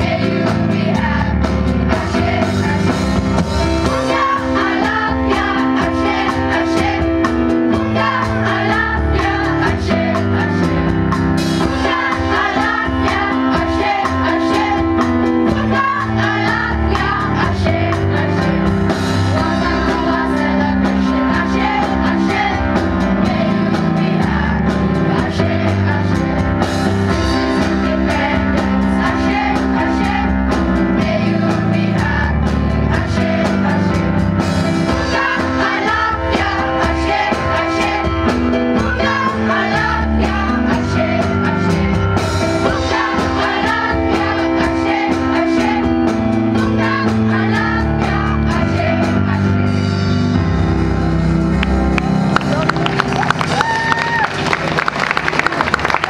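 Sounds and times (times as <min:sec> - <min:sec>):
song with singing: 0:00.0 - 0:50.2.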